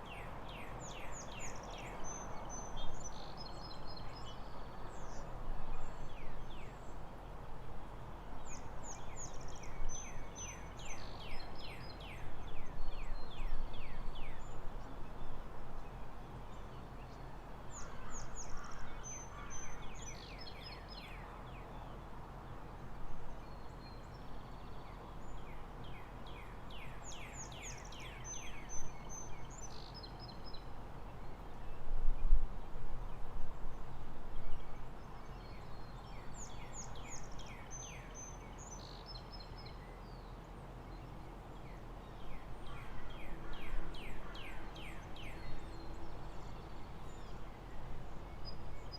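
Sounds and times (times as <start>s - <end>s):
songbird singing: 0.0s - 7.3s, 7.9s - 48.9s
outdoor background noise: 0.0s - 48.9s.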